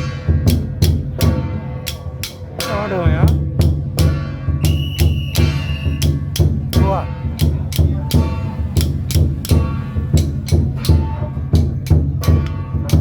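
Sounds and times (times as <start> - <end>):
heavy low drum: 0.0 - 13.0
procession percussion music: 0.0 - 13.0.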